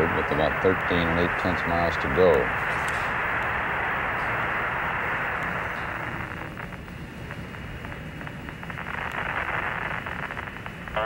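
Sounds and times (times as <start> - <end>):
radio crackles: 0.0 - 11.0
radio static hiss: 0.0 - 11.0.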